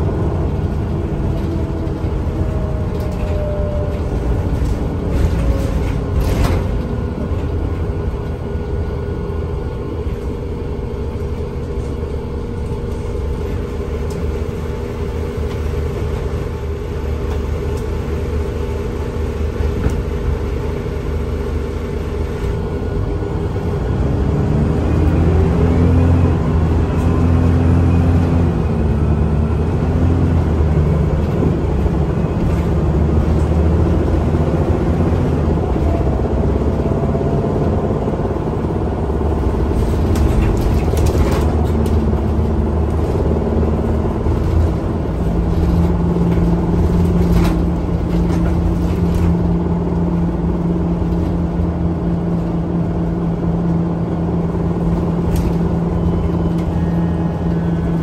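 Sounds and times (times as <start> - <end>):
bus engine drone: 0.0 - 58.0
rising engine whine: 0.0 - 58.0.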